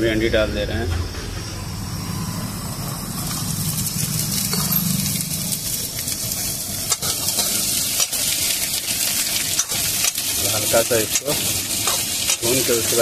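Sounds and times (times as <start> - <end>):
okra sizzling in hot oil: 2.5 - 13.0.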